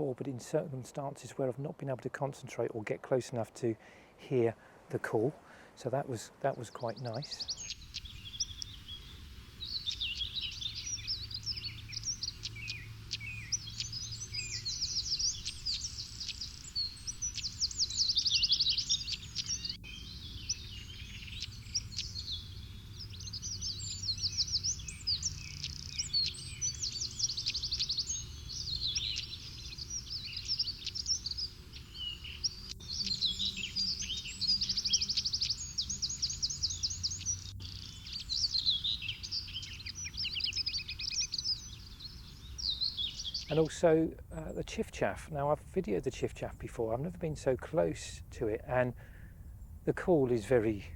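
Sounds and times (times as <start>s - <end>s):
songbirds twittering: 0.0s - 50.9s.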